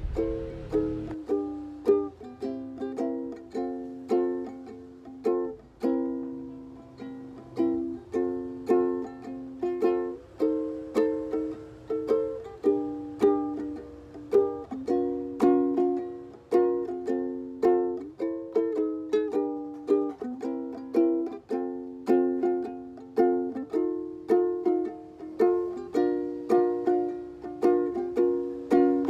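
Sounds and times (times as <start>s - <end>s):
plucked-string chords: 0.0s - 29.0s.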